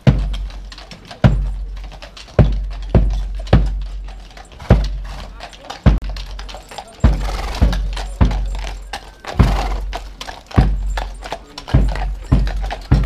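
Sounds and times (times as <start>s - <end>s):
bass drum marching beat: 0.0s - 13.0s
horse hooves on asphalt: 0.0s - 13.0s.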